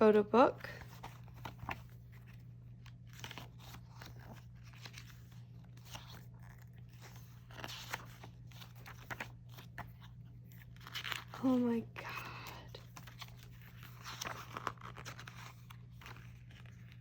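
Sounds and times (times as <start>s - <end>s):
paper and plastic rustling: 0.7s - 11.7s, 12.7s - 17.0s.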